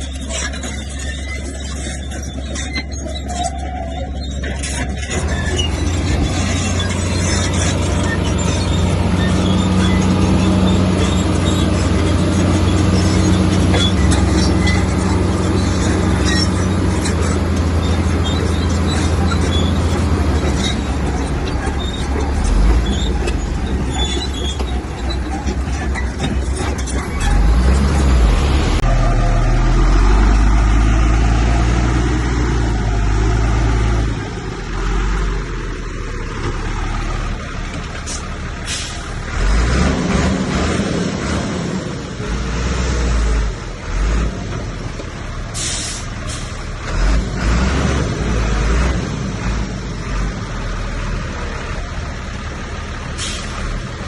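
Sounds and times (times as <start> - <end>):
heavy diesel machinery working: 0.0 - 54.0.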